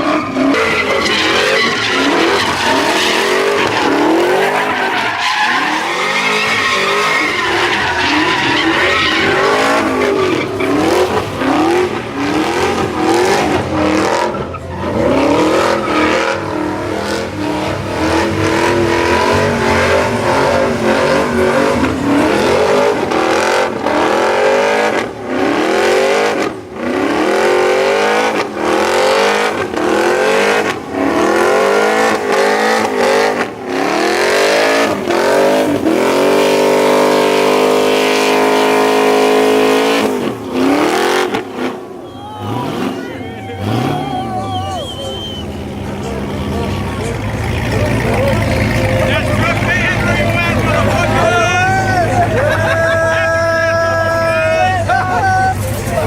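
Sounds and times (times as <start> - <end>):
truck engine revving: 0.0 - 56.0
tyres squealing on pavement: 0.0 - 56.0.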